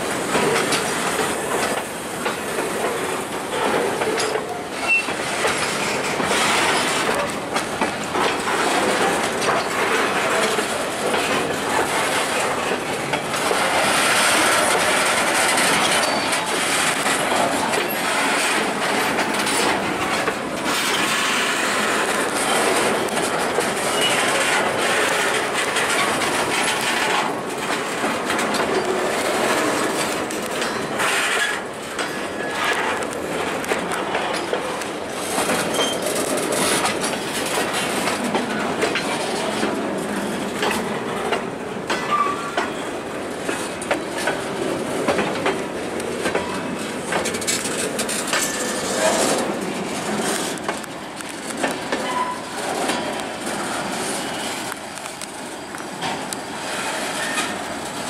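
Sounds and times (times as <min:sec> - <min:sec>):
freight train wheels clanking: 0:00.0 - 0:58.0.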